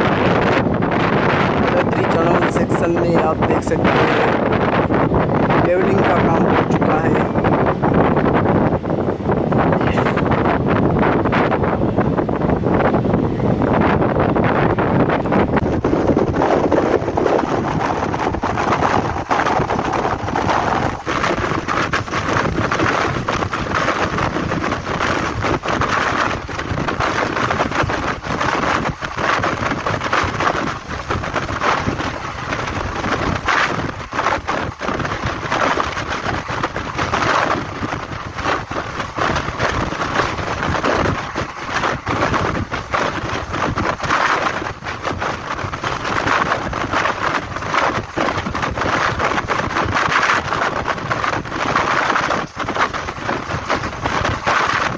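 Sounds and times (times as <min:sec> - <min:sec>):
moving train rumble and rattles: 0:00.0 - 0:54.9
wind on microphone: 0:00.0 - 0:54.9.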